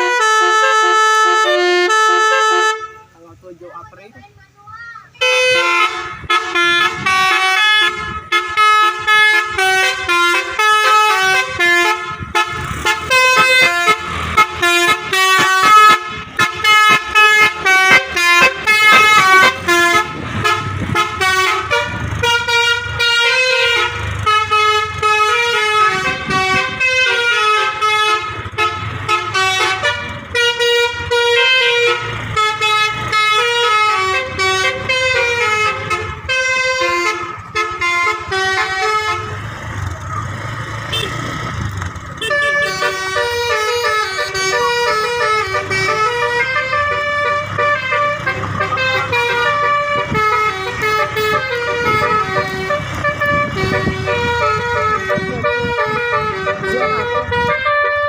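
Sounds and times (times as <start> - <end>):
multi-tone air horn melody: 0.0 - 3.2, 5.2 - 39.5, 40.9 - 41.2, 42.2 - 58.0.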